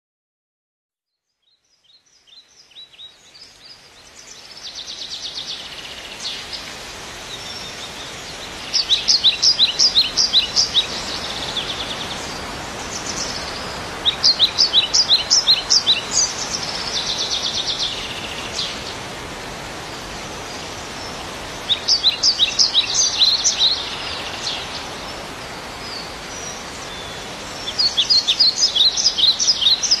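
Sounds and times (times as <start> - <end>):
small bird singing: 1.1 - 6.7, 7.3 - 19.0, 20.1 - 30.0
steady background hiss: 1.9 - 30.0.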